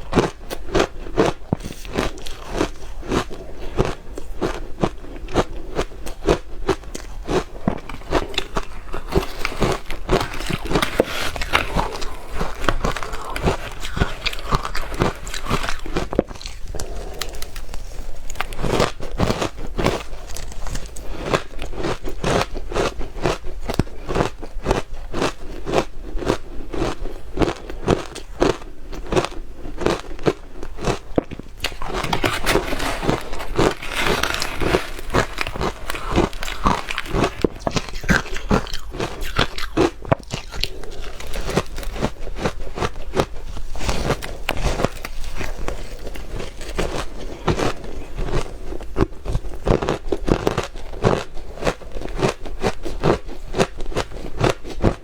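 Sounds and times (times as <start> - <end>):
person chewing ice: 0.0 - 55.0.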